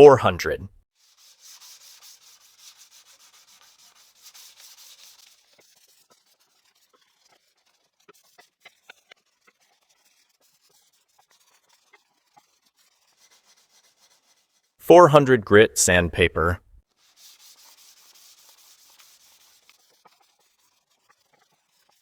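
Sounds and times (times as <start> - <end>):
sandpaper rubbing on wood: 1.0 - 14.8, 16.9 - 22.0.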